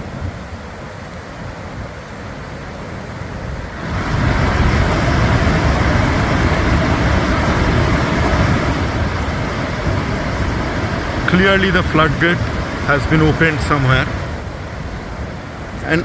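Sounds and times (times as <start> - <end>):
floodwater rushing over rocks: 0.0 - 16.0.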